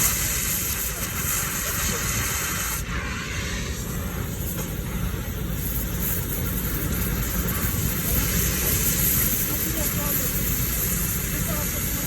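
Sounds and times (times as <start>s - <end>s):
gas cutting torch hissing: 0.0s - 12.0s.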